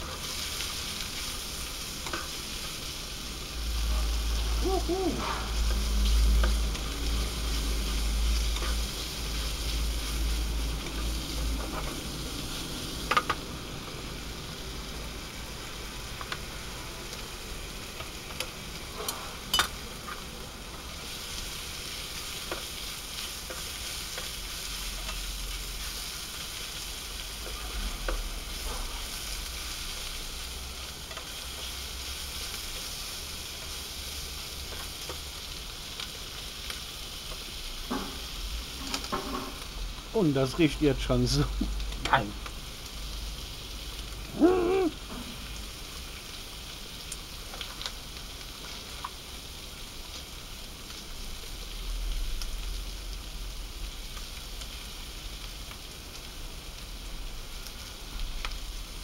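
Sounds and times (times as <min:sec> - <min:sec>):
sausage sizzling in frying pan: 0:00.0 - 0:59.0.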